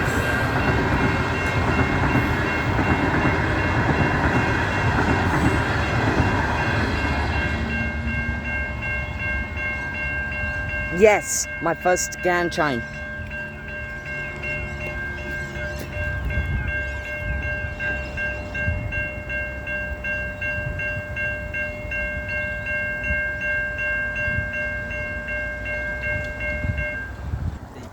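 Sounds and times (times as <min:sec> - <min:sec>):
level crossing warning bells: 0:00.0 - 0:27.4
passing train rumble: 0:00.0 - 0:27.9.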